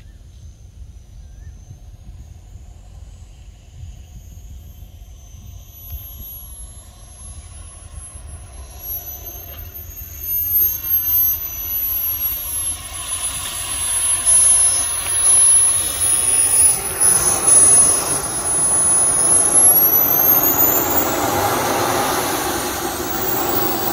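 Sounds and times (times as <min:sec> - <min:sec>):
model jet turbine whining: 0:00.0 - 0:23.9.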